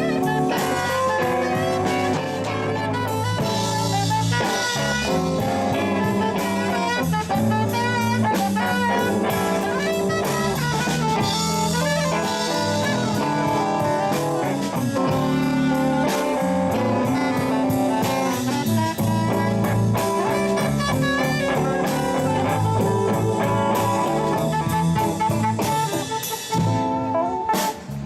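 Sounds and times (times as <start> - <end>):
bass: 0.0 - 28.0
drum kit beat: 0.0 - 28.0
electric guitar: 0.0 - 28.0
saxophone solo: 0.0 - 28.0.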